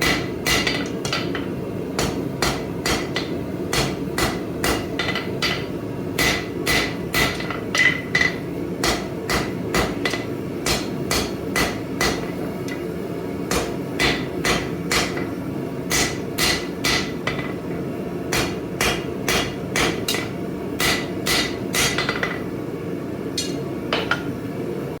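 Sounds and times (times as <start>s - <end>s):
hammer striking metal on anvil: 0.0s - 12.9s, 13.5s - 17.6s, 18.3s - 22.4s, 23.4s - 24.3s.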